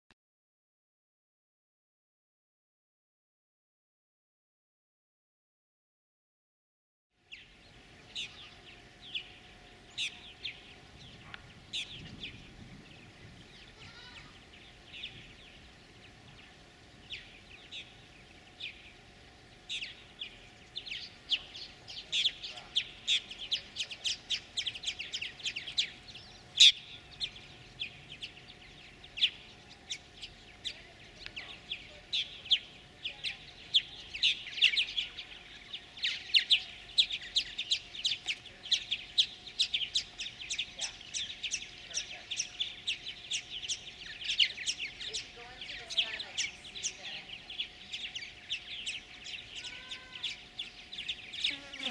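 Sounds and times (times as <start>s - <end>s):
birds chirping rapidly: 7.2s - 51.9s.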